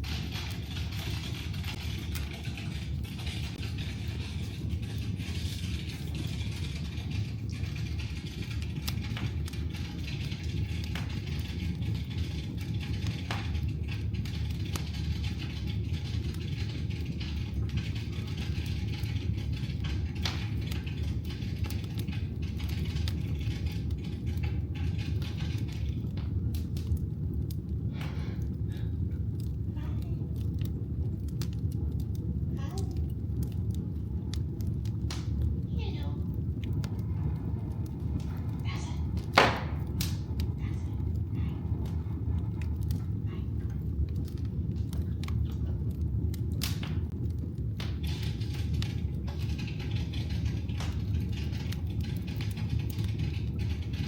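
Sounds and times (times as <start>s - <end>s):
burning wood crackling and popping: 0.0s - 54.0s
low rumble of flames: 0.0s - 54.0s.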